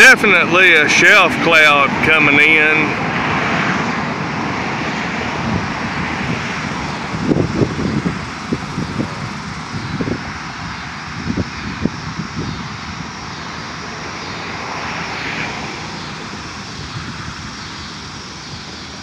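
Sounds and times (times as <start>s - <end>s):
wind gusts buffeting microphone: 0.0s - 19.0s
wind rushing: 0.0s - 19.0s.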